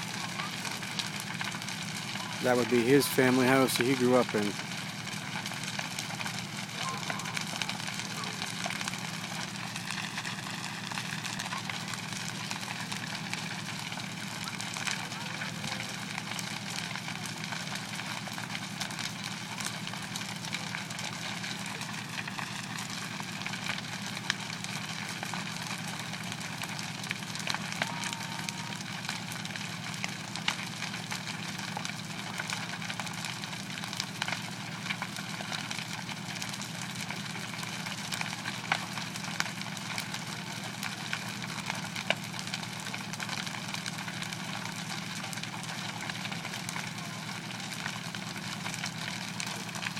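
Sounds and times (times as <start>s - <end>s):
burning house crackling: 0.0s - 49.9s
sharp popping of fire: 0.0s - 49.9s.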